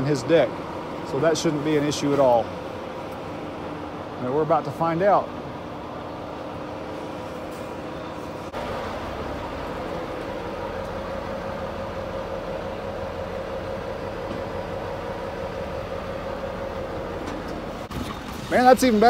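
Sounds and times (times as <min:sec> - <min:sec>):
truck engines idling: 0:00.0 - 0:19.0.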